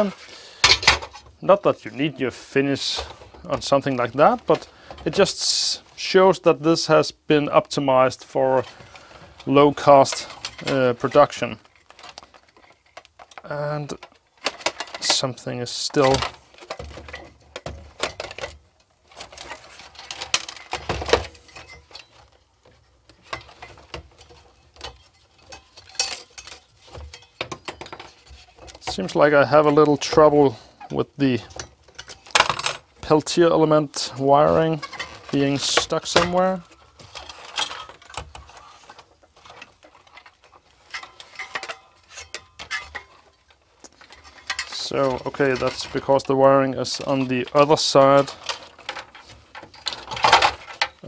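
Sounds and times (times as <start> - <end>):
plastic and metal parts rattling: 0.0 - 5.9, 7.6 - 51.0.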